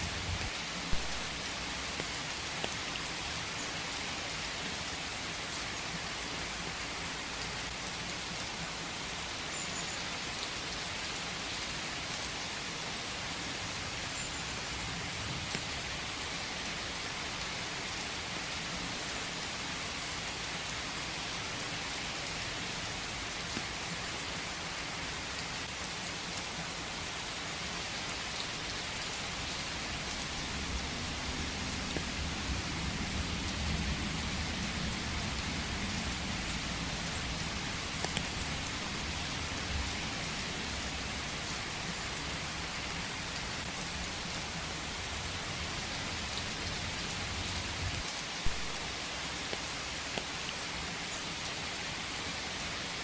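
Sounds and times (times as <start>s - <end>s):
rain falling in forest: 0.0s - 53.0s.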